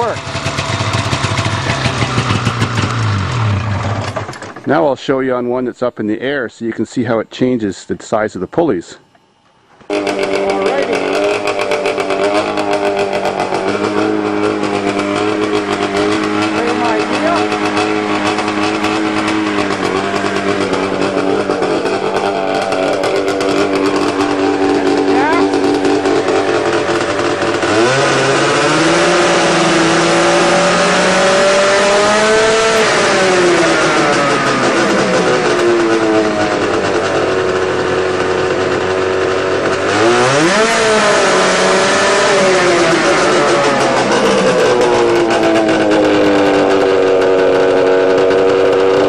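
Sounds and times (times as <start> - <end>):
snowmobile engine revving: 0.0 - 5.6, 9.9 - 49.0.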